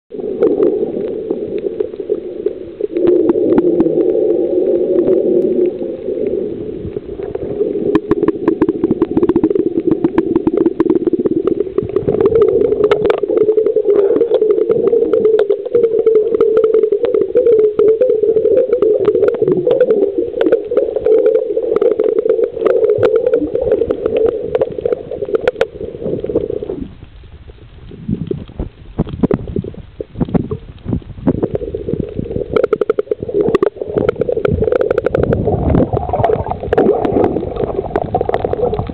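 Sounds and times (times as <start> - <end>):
low underwater rumble: 0.1 - 38.9
underwater clicks and crackles: 0.1 - 38.9.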